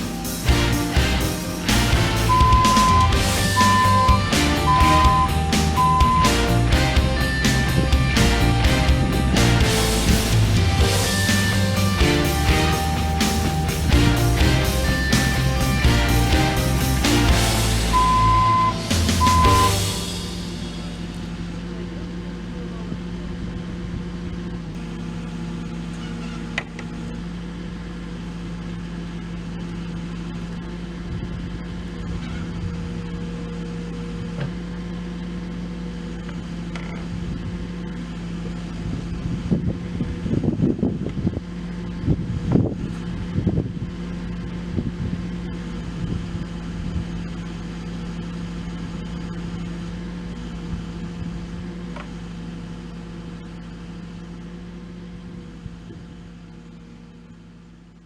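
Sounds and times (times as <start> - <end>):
excavator diesel engine running: 0.0 - 57.8.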